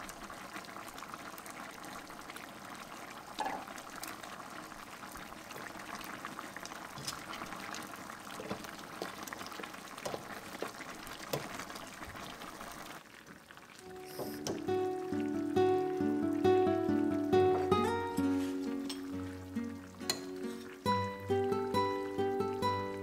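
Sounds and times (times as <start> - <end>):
stew bubbling in a pan: 0.0 - 23.0.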